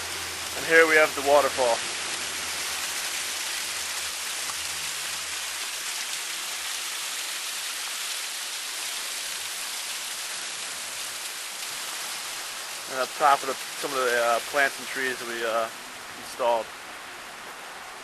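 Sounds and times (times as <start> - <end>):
waterfall splashing over boulders: 0.0 - 18.0.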